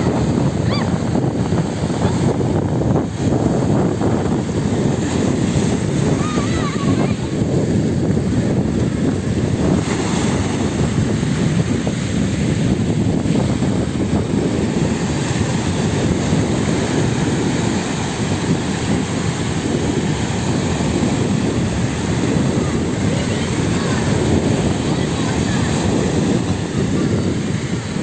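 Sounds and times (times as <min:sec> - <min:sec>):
sea water washing: 0:00.0 - 0:28.0
wind blowing across microphone: 0:00.0 - 0:28.0.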